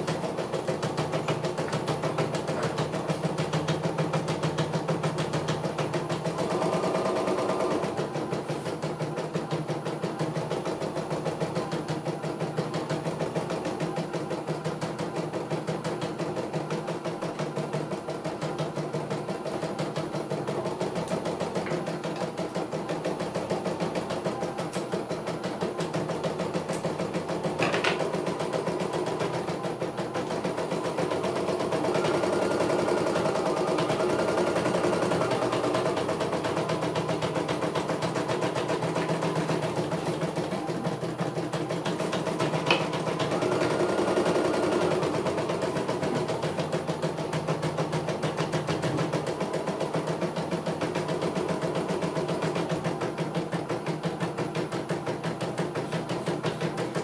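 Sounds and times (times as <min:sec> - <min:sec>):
embroidery machine stitching clatter: 0:00.0 - 0:57.0.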